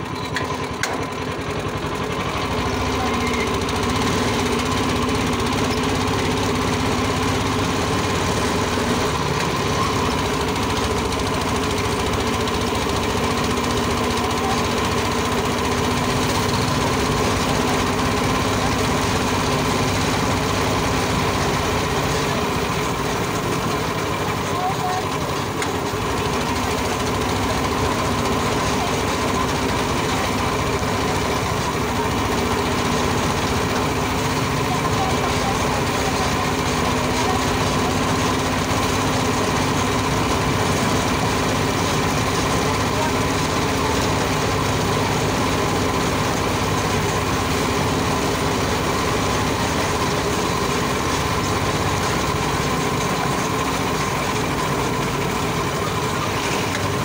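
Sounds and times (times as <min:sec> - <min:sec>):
road and vehicle noise: 0:00.0 - 0:57.0.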